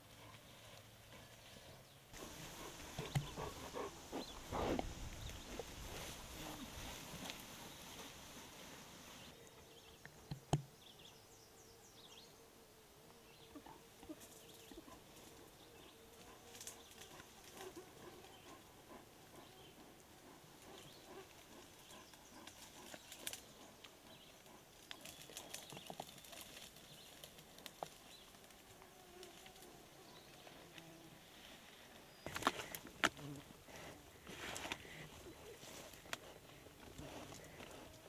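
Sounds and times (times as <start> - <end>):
rustling of brush and twigs: 0.0 - 9.6, 13.9 - 18.7, 19.4 - 38.0.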